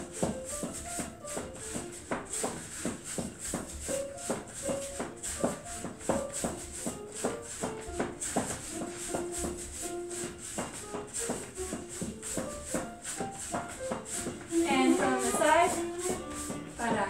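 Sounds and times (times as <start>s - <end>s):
swing jazz band music: 0.0s - 17.0s.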